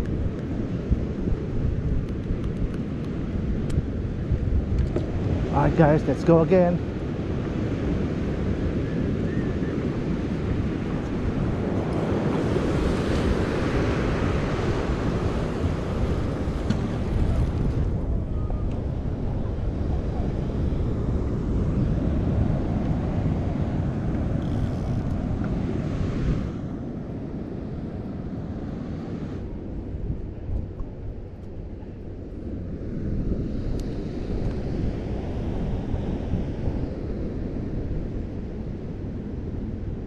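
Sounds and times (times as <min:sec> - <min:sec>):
ocean surf: 0:00.0 - 0:40.0
wind buffeting microphone: 0:00.0 - 0:40.0.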